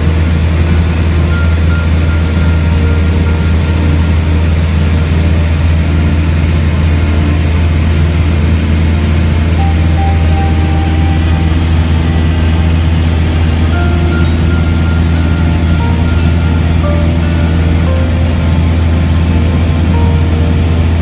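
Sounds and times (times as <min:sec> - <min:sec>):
light aircraft engine and propeller: 0:00.0 - 0:21.0.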